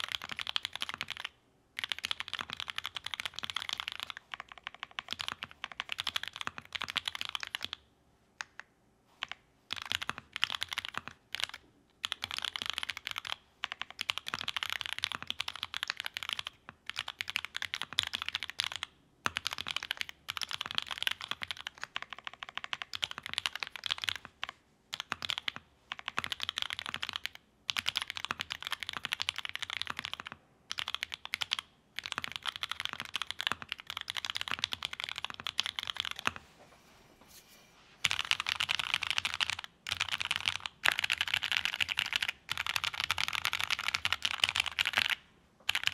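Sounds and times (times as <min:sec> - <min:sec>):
typing on a mechanical keyboard: 0:00.0 - 0:07.8, 0:09.2 - 0:36.4, 0:38.0 - 0:45.9.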